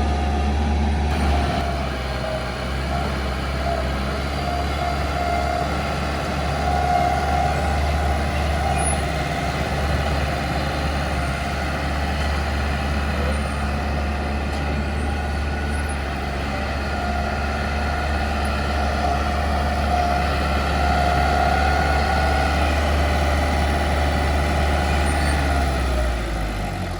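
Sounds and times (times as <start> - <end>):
diesel engine rumble: 0.0 - 26.9.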